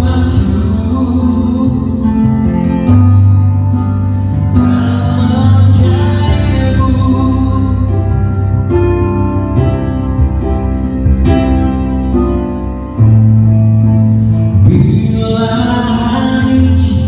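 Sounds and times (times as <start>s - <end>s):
deep bass note: 0.0s - 17.0s
keyboard chords: 0.0s - 17.0s.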